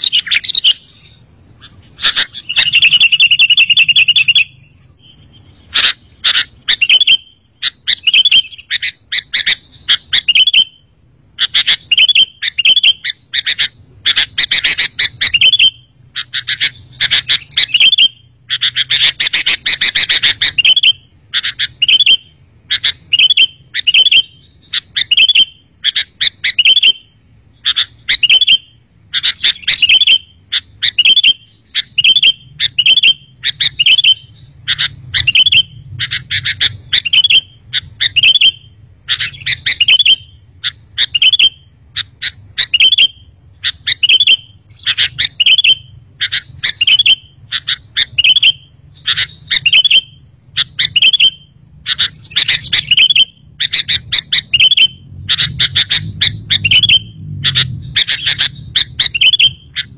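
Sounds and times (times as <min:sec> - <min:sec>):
bulbul song: 0:00.0 - 0:59.9.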